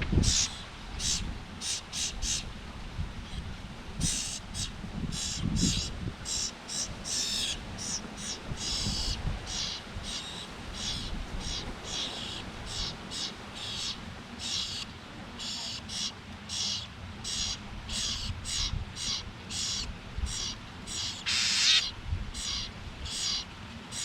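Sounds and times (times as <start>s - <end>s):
bird harsh calls: 0.2s - 2.5s, 4.0s - 24.0s.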